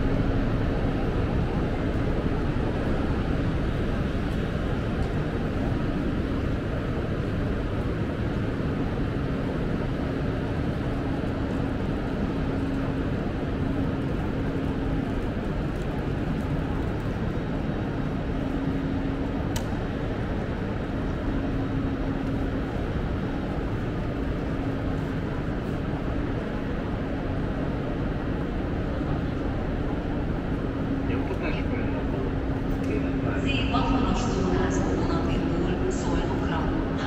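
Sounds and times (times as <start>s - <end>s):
railway station hall hum: 0.0s - 37.0s.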